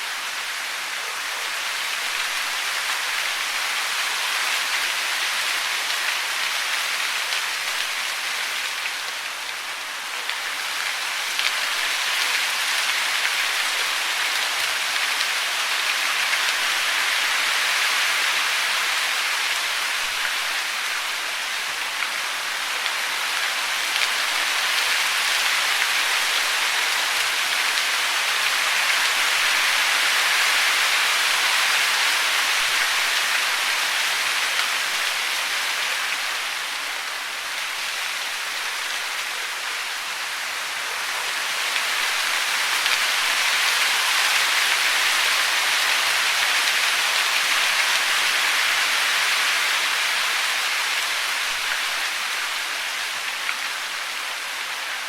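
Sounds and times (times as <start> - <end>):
hiss of falling water: 0.0 - 55.0.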